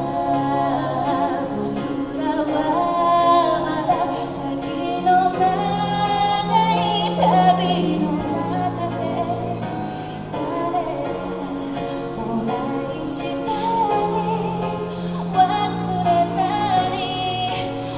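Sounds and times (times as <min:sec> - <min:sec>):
woman singing slow song: 0:00.0 - 0:17.9.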